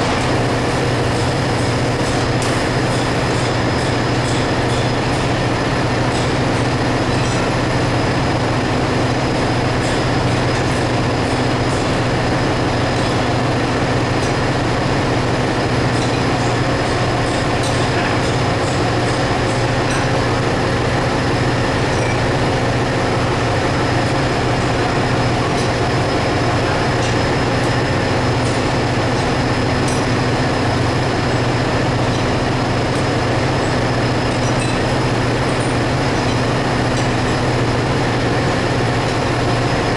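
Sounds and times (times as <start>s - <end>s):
engine room machinery drone: 0.0s - 39.9s.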